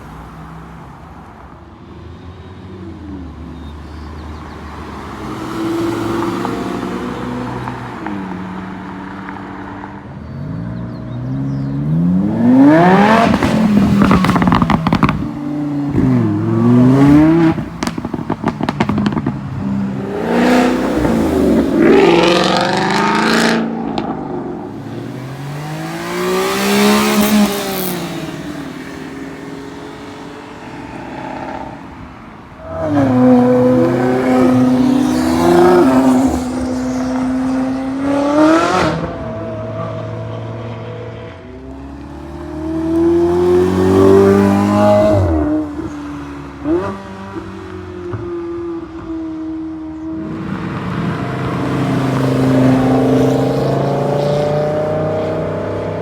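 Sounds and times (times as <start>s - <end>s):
cars accelerating past: 4.1s - 56.0s.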